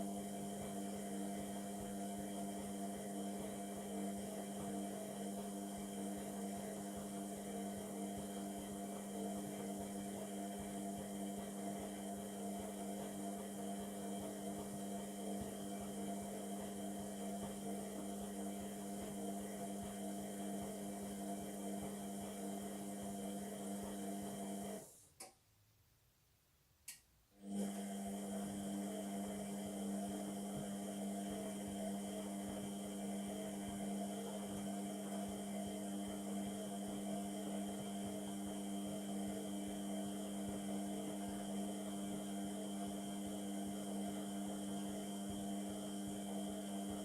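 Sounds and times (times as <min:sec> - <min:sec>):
washing machine hum: 0:00.0 - 0:25.1, 0:27.4 - 0:47.0.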